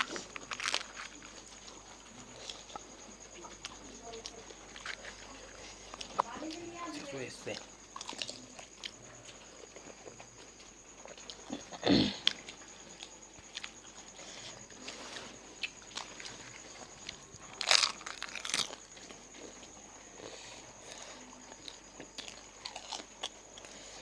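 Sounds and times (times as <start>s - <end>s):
crunching and chewing: 0.0s - 24.0s.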